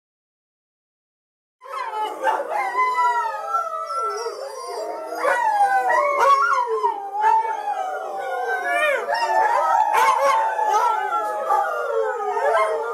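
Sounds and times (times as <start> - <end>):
sled dogs howling: 1.6 - 12.9.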